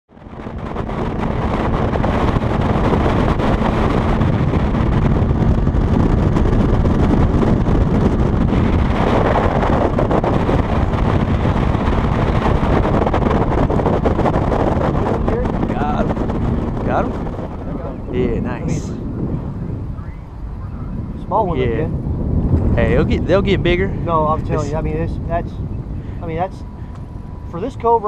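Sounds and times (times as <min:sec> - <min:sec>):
wind buffeting microphone: 0:00.1 - 0:28.0.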